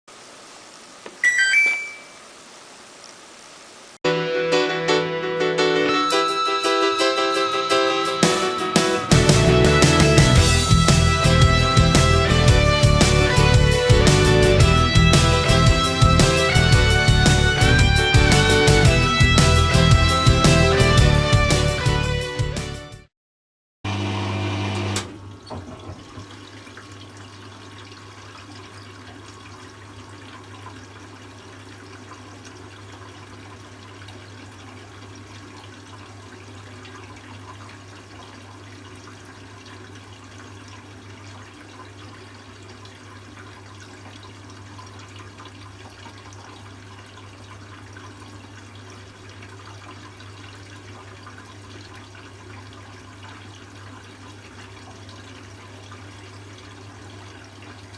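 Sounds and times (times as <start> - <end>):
washing machine filling with water: 0.1 - 4.0, 7.4 - 22.0, 23.9 - 57.9.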